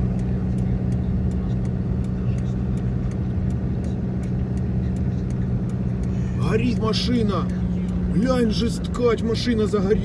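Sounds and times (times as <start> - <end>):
car engine and tyres drone: 0.0 - 10.0
faint ticking: 0.0 - 10.0.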